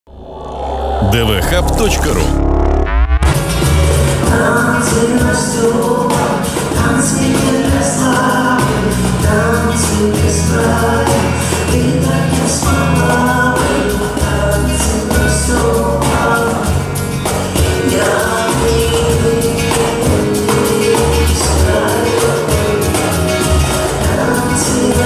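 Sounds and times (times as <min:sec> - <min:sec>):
bass: 0:00.1 - 0:25.0
pop song with singing: 0:03.3 - 0:25.0.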